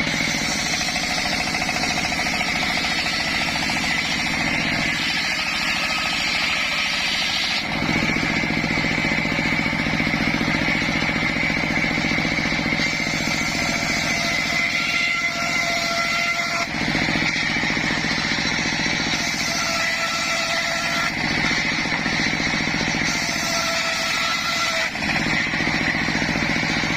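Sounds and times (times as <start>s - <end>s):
engine-driven circular saw running: 0.0s - 26.9s.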